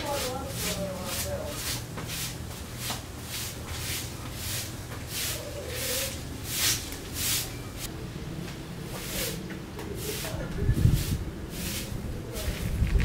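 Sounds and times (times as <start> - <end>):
broom sweeping stone floor: 0.0 - 7.9, 8.8 - 13.0.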